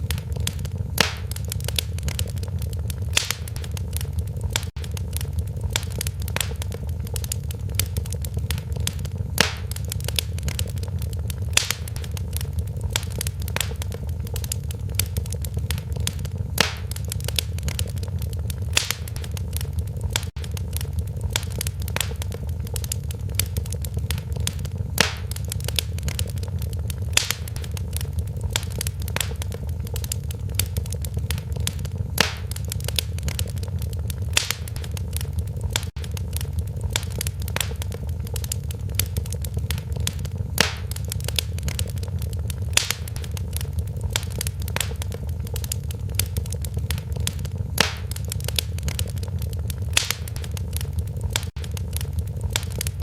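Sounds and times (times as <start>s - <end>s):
fire popping: 0.0s - 53.0s
wood fire crackling: 0.0s - 53.0s.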